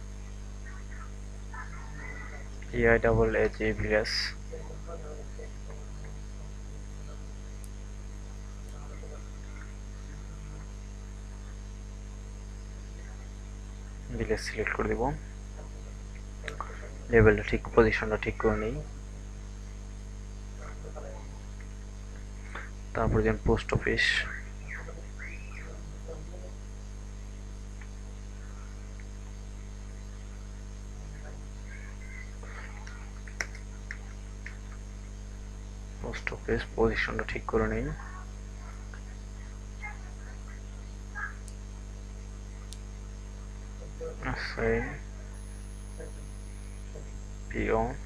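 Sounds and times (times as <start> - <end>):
electrical mains hum: 0.0 - 48.0
faint high-pitched whine: 0.0 - 48.0.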